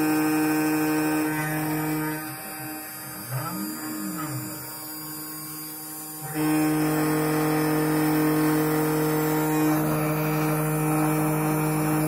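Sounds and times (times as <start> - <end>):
router bit cutting whine: 0.0 - 12.0
router motors humming: 0.0 - 12.0.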